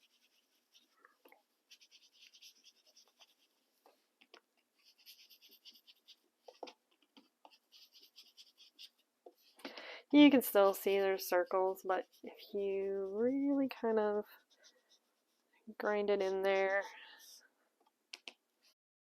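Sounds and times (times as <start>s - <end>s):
colouring tool scrubbing on paper: 0.0s - 3.6s, 4.8s - 17.4s.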